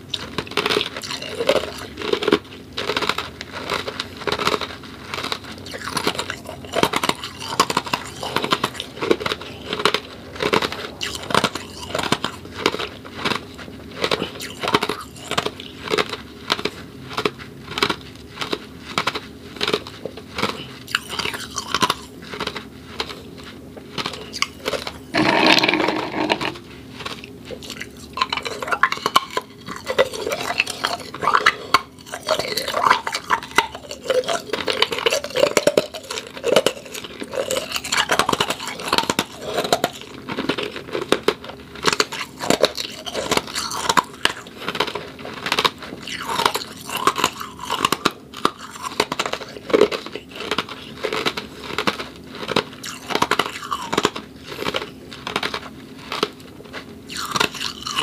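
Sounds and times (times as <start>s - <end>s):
ice cubes crunching: 0.0s - 23.3s, 23.9s - 58.0s.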